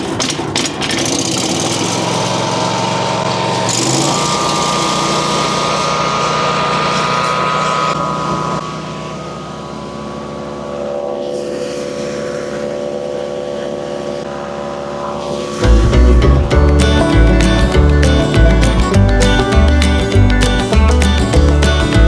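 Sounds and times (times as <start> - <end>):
wood chipper engine running: 0.0 - 22.0.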